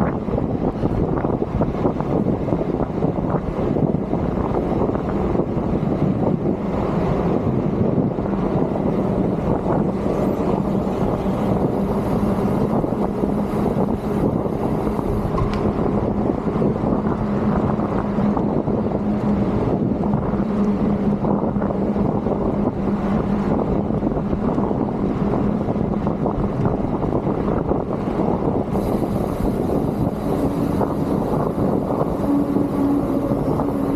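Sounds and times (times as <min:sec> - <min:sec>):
road noise: 0:00.0 - 0:33.9
wind on microphone: 0:00.0 - 0:33.9.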